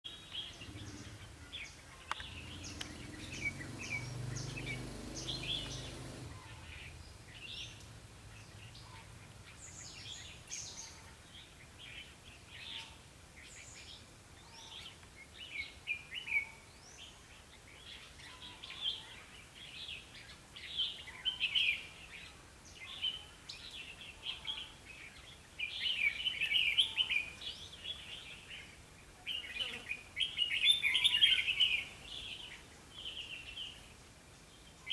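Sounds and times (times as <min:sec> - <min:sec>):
birds singing chirpy phrases: 0:00.1 - 0:34.9.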